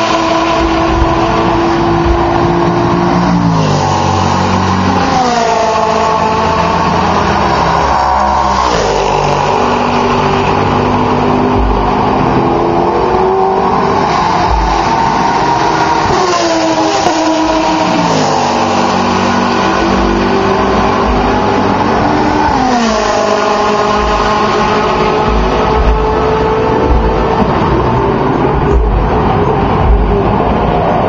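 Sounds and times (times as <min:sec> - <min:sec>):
race cars passing at full throttle: 0:00.0 - 0:31.0.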